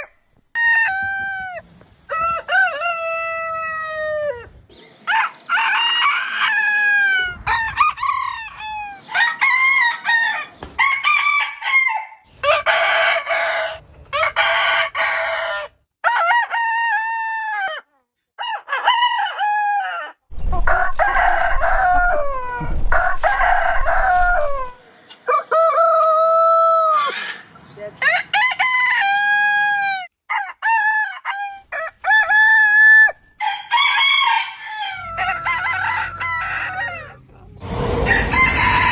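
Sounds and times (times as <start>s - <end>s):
roosters crowing: 0.0s - 38.9s.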